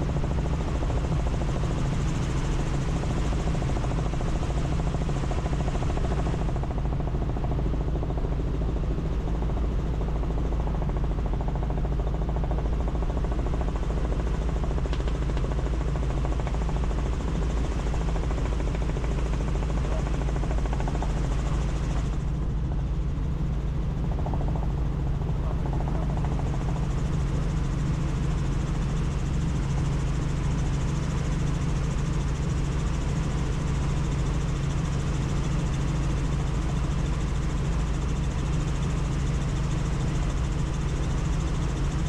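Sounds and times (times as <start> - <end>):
helicopter engine and rotor drone: 0.0 - 42.0.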